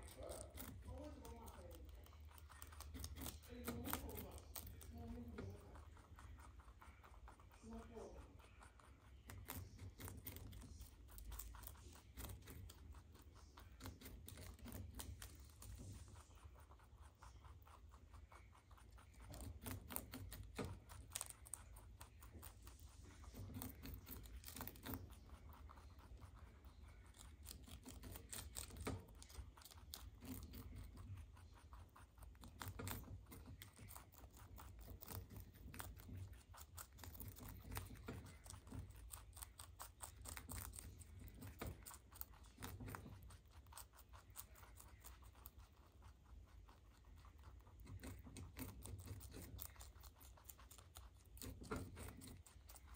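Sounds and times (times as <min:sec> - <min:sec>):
rabbits chewing leaves: 0:00.0 - 0:52.9.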